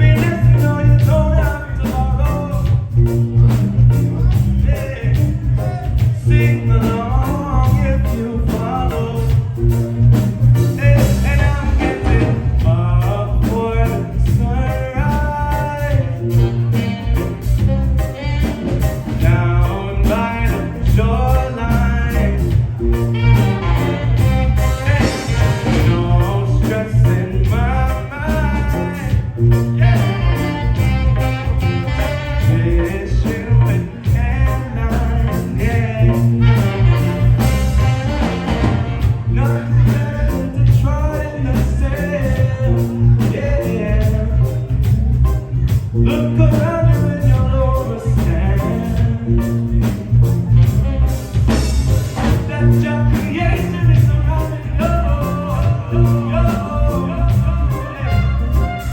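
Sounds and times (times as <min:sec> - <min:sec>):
person singing lead vocal: 0:00.0 - 0:09.7, 0:10.7 - 0:17.2, 0:18.1 - 0:30.8, 0:31.8 - 0:44.8, 0:46.0 - 0:50.6, 0:52.2 - 0:58.9
live reggae band playing: 0:00.0 - 0:58.9.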